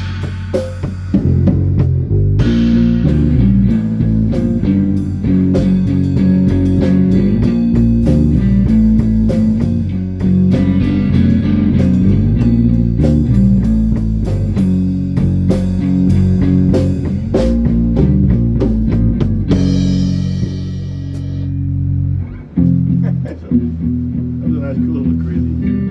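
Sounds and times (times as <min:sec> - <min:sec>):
drum kit: 0:00.0 - 0:25.6
bass guitar: 0:00.0 - 0:25.9
electric guitar: 0:00.0 - 0:25.9.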